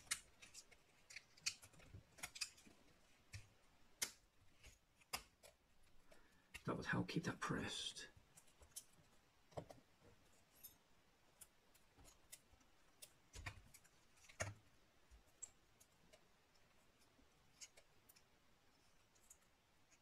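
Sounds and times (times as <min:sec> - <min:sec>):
small laptop parts clicking: 0:00.0 - 0:06.6, 0:08.3 - 0:09.9, 0:10.5 - 0:20.0.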